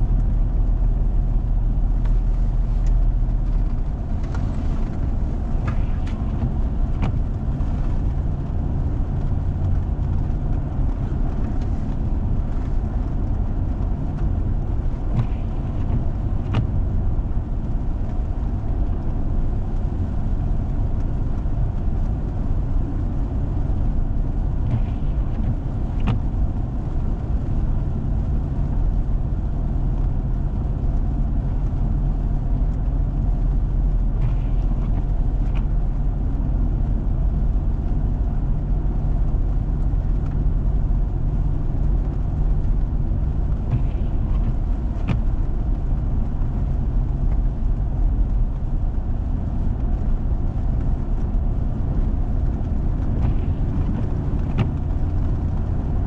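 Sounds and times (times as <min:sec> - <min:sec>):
vehicle engine and road drone: 0:00.0 - 0:56.0.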